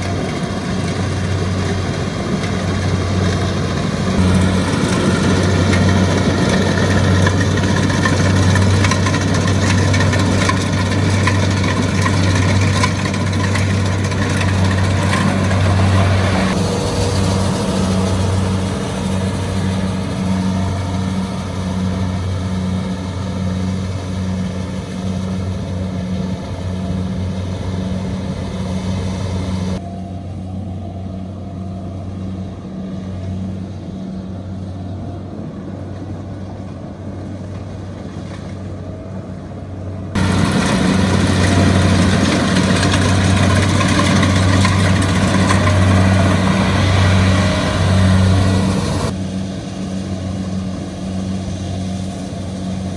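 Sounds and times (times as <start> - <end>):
diesel engine humming under load: 0.0 - 52.9.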